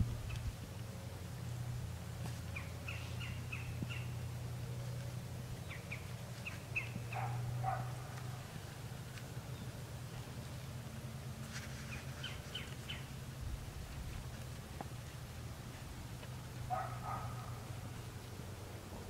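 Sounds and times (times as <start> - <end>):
songbird chirping: 0.0 - 18.6
steady low hum: 0.0 - 19.0.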